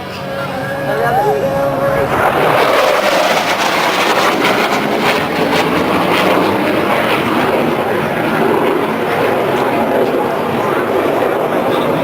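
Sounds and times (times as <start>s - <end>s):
military aircraft flying overhead: 0.0s - 12.0s.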